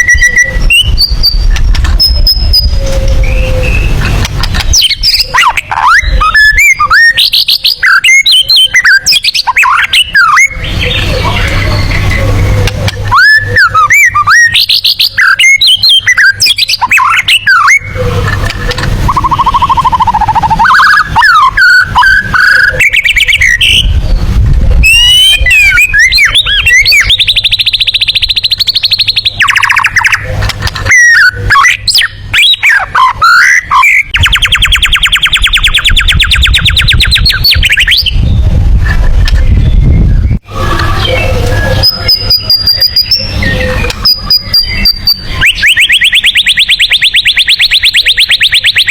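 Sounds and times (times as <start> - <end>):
bird singing whistled notes: 0.0 - 18.0, 19.1 - 38.6, 39.4 - 48.9.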